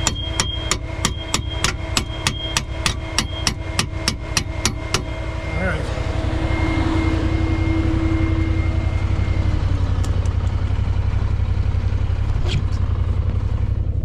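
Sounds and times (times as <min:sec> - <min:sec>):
thin steady whine: 0:00.0 - 0:14.0
vehicle engine idling: 0:00.0 - 0:14.0.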